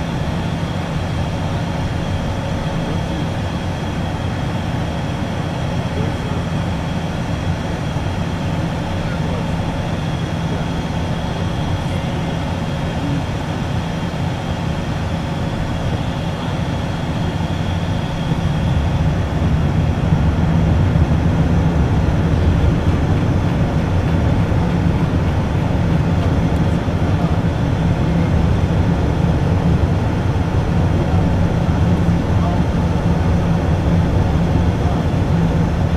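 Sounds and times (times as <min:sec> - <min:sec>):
jet cockpit engine and airflow rumble: 0:00.0 - 0:35.9.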